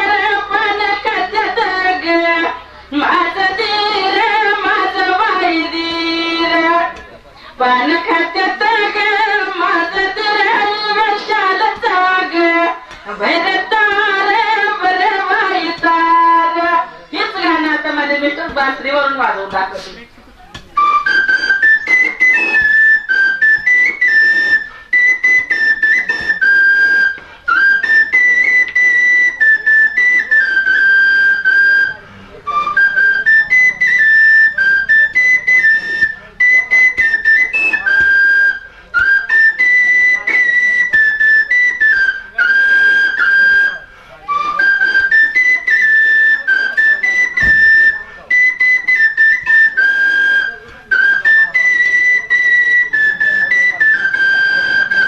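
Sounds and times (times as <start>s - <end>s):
bamboo flute folk melody: 0.0s - 55.0s.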